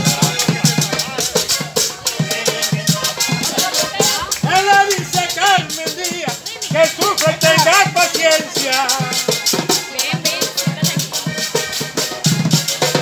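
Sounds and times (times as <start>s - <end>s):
button accordion melody: 0.0s - 13.0s
drum beat: 0.0s - 13.0s
scraper scraping rhythmically: 0.0s - 13.0s.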